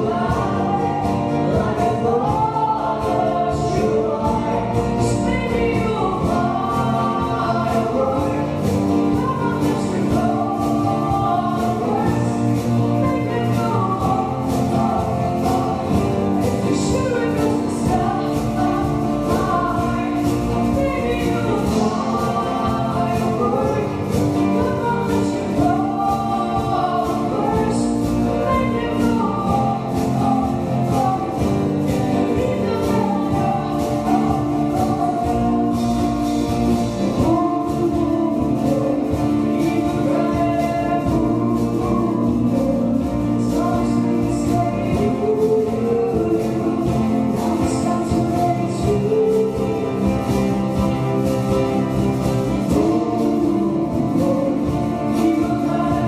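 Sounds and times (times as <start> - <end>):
acoustic guitar: 0.0 - 56.0
drums: 0.0 - 56.0
upright bass: 0.0 - 56.0
woman singing: 0.0 - 56.0.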